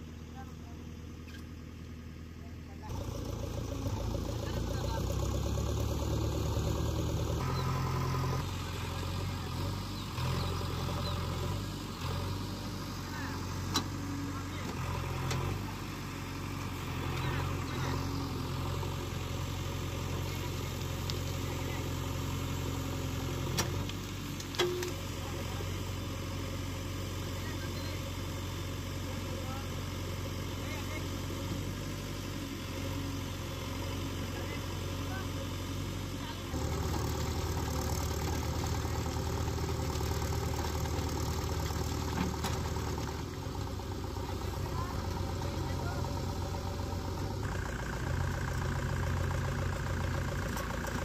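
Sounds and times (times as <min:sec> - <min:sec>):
diesel engine running: 0:00.0 - 0:51.0
backhoe digging mud: 0:02.9 - 0:25.9, 0:31.0 - 0:51.0.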